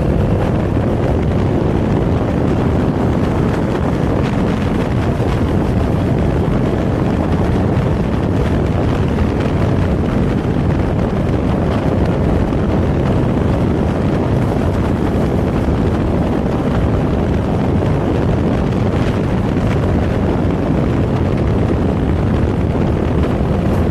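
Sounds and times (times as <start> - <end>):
motorcycle engine cruising: 0.0 - 23.9
wind on microphone: 0.0 - 23.9.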